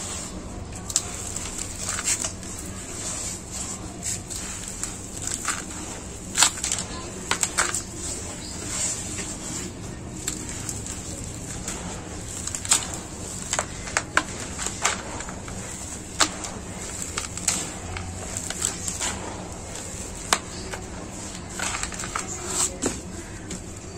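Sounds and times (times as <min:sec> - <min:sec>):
pebbles clicking: 0:00.0 - 0:23.6.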